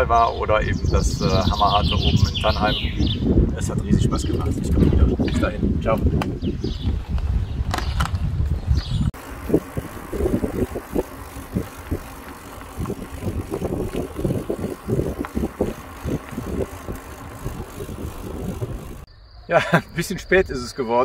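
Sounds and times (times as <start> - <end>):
bicycle tyre rumble on pavement: 0.0 - 19.1
wind on microphone: 0.0 - 19.1.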